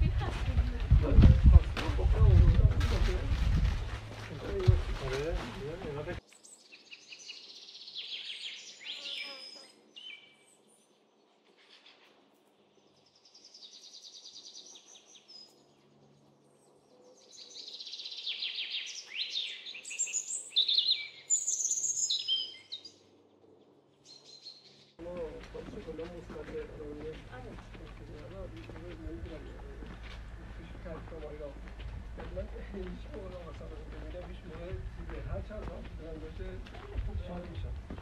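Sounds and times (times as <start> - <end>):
songbirds trilling and chirping: 0.0 - 38.0.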